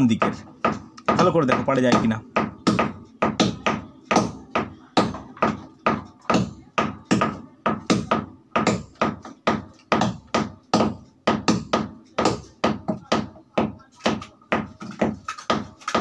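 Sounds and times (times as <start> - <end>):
hammering strikes: 0.0 - 16.0.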